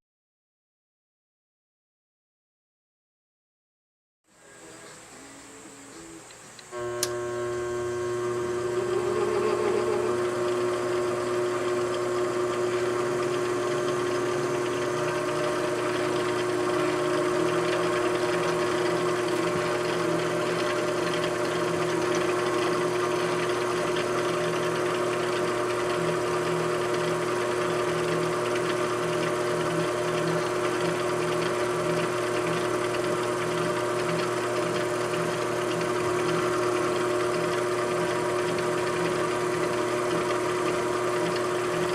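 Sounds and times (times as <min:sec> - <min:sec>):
machine tool motor humming: 0:05.6 - 0:41.9.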